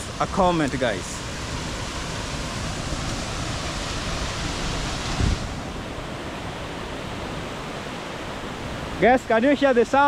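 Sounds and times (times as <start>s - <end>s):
waterfall roaring: 0.0s - 10.0s.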